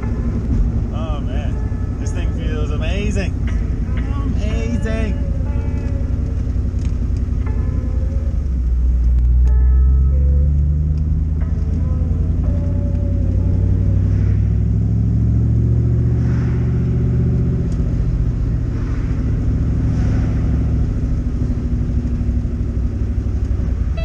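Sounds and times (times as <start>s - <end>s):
car engine low heavy exhaust: 0.0s - 24.0s.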